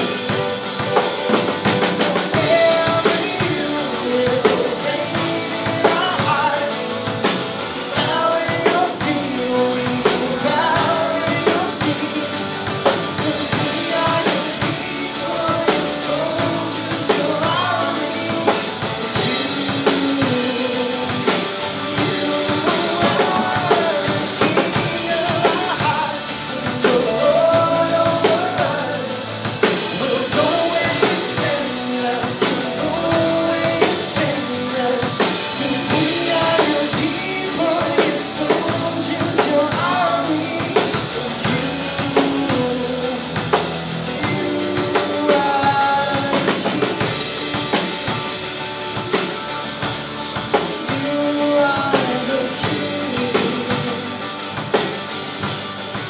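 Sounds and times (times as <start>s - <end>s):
drum kit beat: 0.0s - 56.0s
electric guitar: 0.0s - 56.0s
male lead vocal: 0.0s - 56.0s
strummed acoustic guitar: 0.0s - 56.0s.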